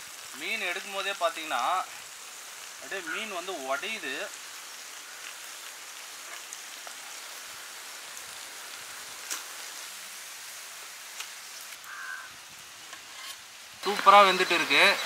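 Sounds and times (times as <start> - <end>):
fish sizzling in a pan: 0.0 - 15.0.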